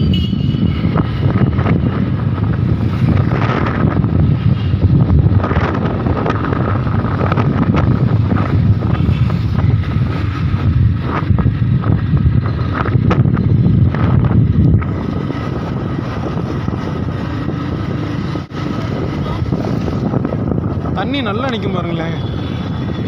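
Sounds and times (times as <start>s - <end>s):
motorcycle engine rumble: 0.0s - 23.0s
wind buffeting microphone: 0.0s - 23.0s.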